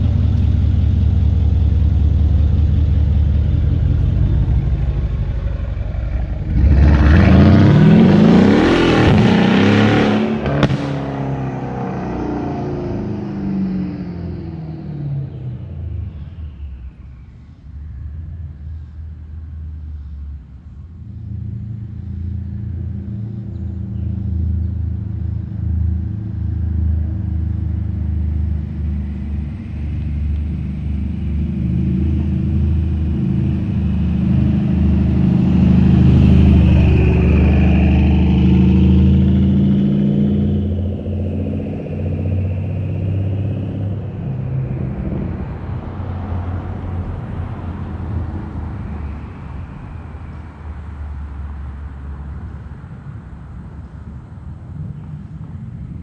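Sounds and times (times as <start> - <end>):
car engine deep rumble: 0.0 - 56.0.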